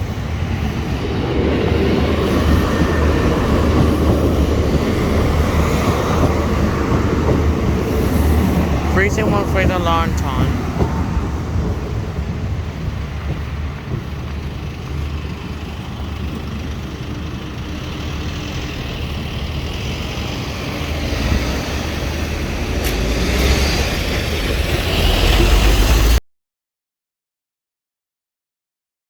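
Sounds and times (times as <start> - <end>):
low rumble of road vehicles: 0.0 - 26.2.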